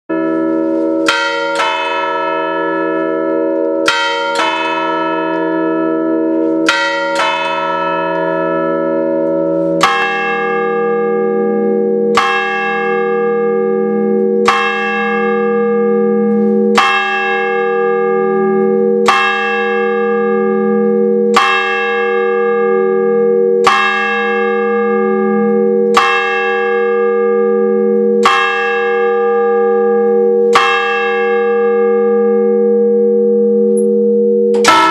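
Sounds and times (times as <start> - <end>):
church bells ringing: 0.1 - 34.9
deep humming bell: 0.1 - 34.9.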